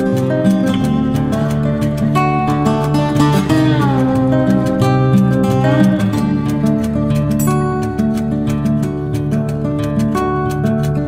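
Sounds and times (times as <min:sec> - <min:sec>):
guitar background music: 0:00.0 - 0:11.0.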